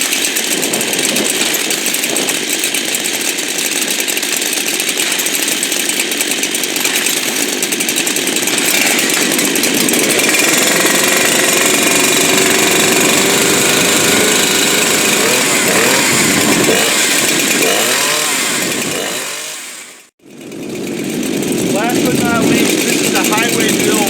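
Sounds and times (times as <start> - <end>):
chainsaw running at high revs: 0.0 - 24.0.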